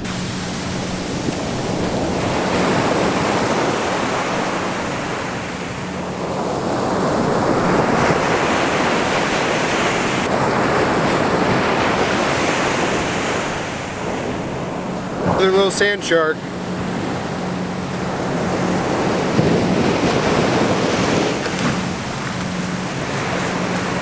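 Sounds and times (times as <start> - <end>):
ocean surf breaking: 0.0 - 24.0
wind on microphone: 0.0 - 24.0.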